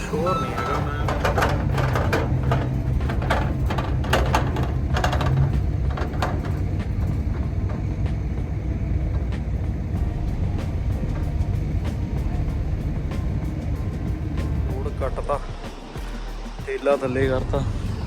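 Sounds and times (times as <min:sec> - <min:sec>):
clanks and rattles: 0:00.0 - 0:15.3
truck engine running: 0:00.0 - 0:18.0.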